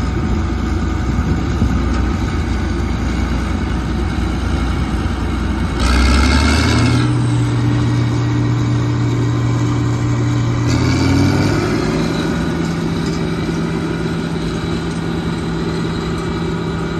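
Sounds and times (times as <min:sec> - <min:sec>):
combine harvester diesel drone: 0:00.0 - 0:16.9
threshing machinery rushing: 0:01.2 - 0:16.9.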